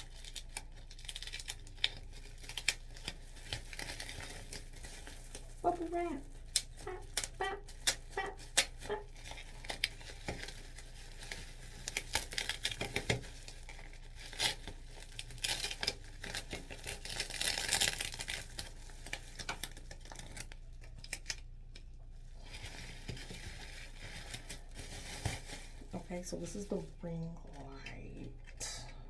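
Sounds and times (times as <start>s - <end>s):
plastic packaging crinkling and tearing: 0.0s - 28.6s.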